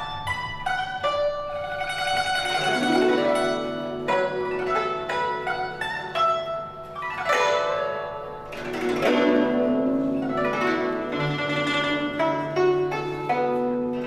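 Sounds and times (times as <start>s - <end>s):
plucked zither notes: 0.0s - 14.0s.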